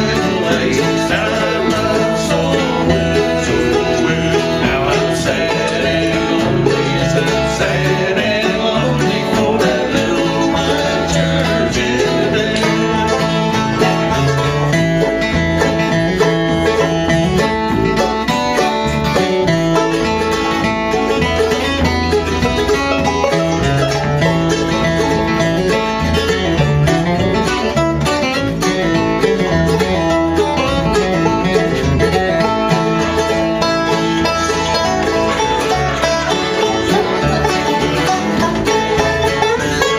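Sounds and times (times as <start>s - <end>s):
bluegrass band playing: 0.0s - 39.9s.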